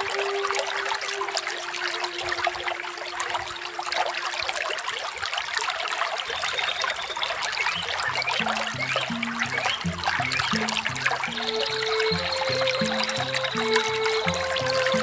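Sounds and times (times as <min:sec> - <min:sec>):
small waterfall splashing: 0:00.0 - 0:15.0.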